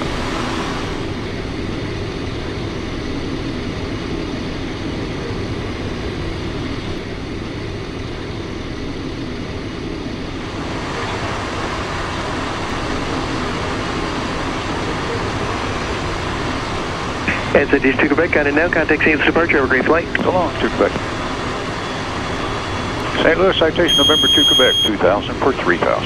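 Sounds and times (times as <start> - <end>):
jet engines in cabin: 0.0 - 26.0.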